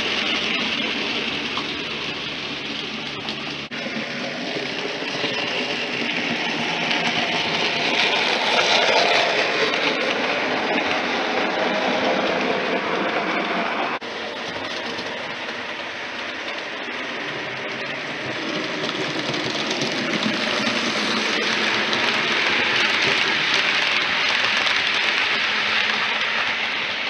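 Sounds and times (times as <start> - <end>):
model train wheels on rail: 0.0 - 27.0.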